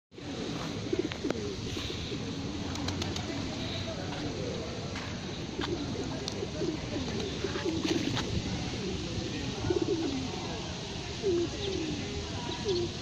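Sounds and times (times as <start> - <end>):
pigeons cooing: 0.2 - 4.5, 5.4 - 13.0.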